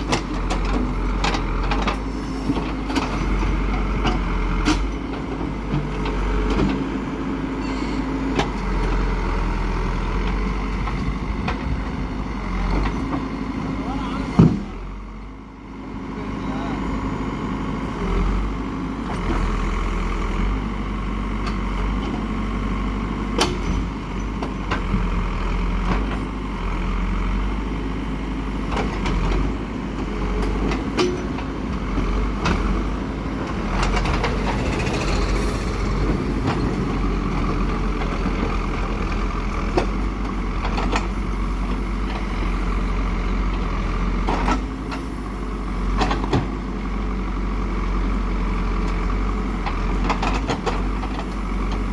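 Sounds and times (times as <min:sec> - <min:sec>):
diesel engine drone: 0:00.0 - 0:51.9.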